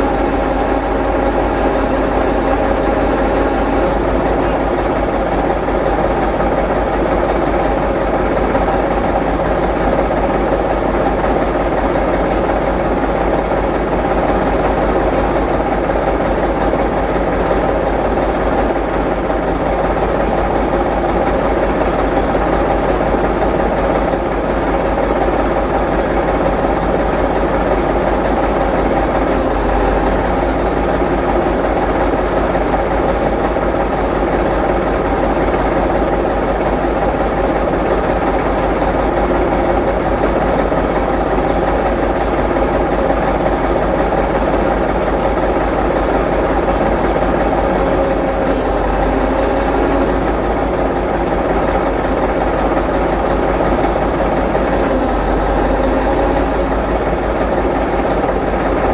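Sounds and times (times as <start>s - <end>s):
heavy vehicle engine idling: 0.0s - 58.9s.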